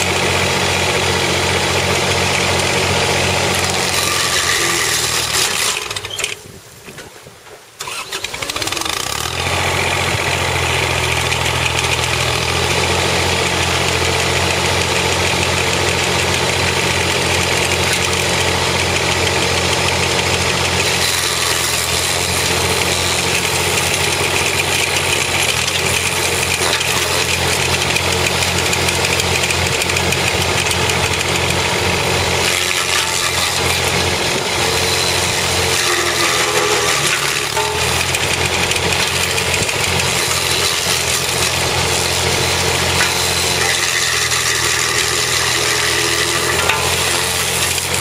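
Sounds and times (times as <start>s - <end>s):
stump grinder grinding wood: 0.0s - 6.5s, 7.8s - 48.0s
tractor engine hum: 0.0s - 48.0s.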